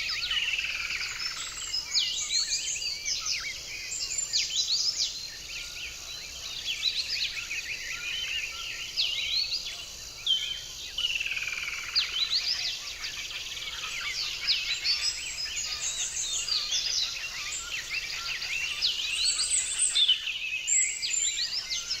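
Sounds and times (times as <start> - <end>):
songbirds chirping and singing: 0.0 - 22.0.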